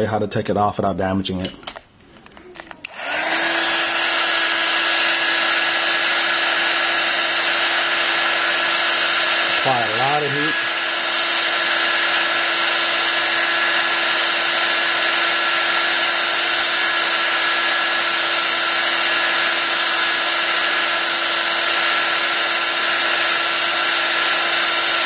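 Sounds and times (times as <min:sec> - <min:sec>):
heat gun blowing with low hum: 0:02.8 - 0:25.0.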